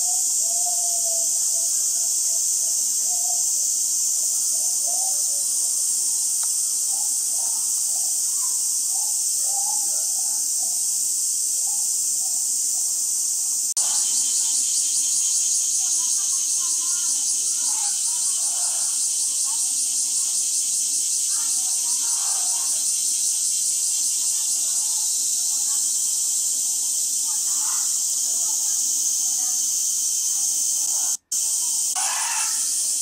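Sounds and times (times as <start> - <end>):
faint voices: 0.0 - 13.1, 13.8 - 33.0
high-pitched insect chorus: 0.0 - 33.0.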